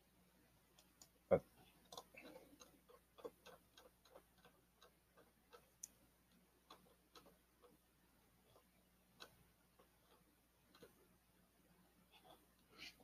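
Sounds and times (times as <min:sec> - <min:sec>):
mouse scroll wheel ticking: 0:00.7 - 0:12.7.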